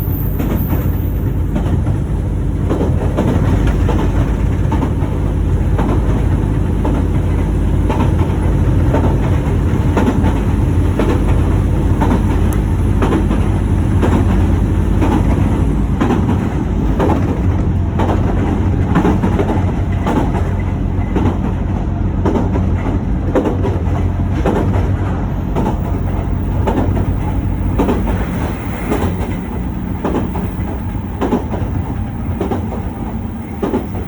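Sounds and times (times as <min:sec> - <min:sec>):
train rumbling: 0:00.0 - 0:34.0
wheel clacks at rail joints: 0:00.0 - 0:34.0.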